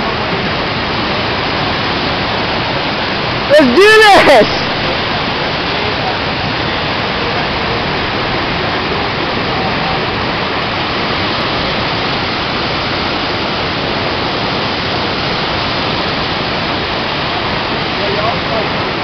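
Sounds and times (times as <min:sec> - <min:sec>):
whitewater rushing: 0:00.0 - 0:19.0.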